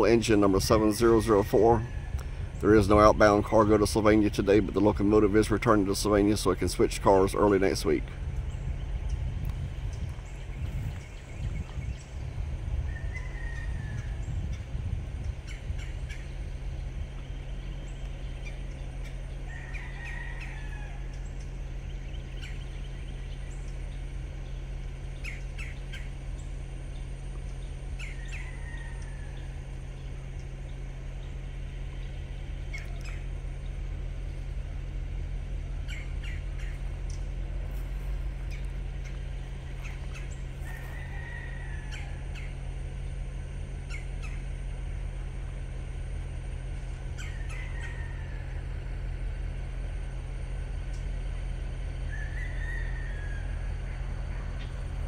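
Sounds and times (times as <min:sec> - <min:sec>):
birds squawking and chirping: 0:00.0 - 0:55.0
distant diesel locomotive drone: 0:00.0 - 0:55.0.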